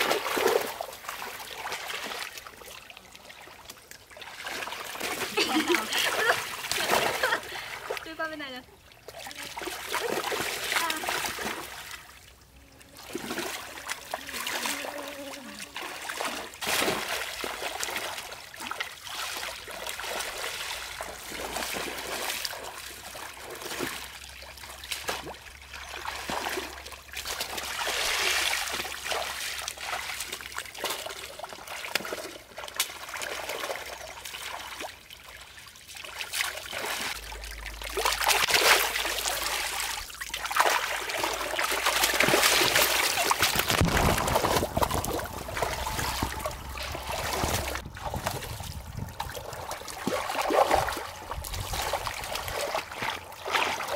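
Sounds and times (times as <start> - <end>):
muddy water splashing: 0.0 - 53.9.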